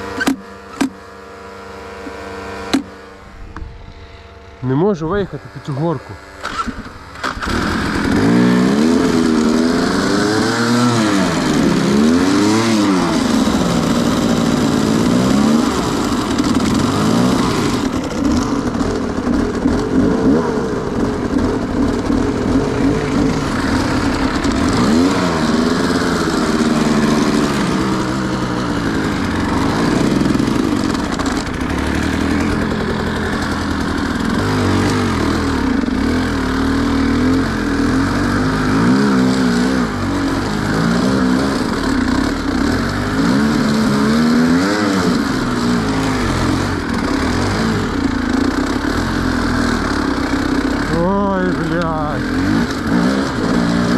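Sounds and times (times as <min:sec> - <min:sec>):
dirt bike engine revving hard: 0:05.1 - 0:53.9.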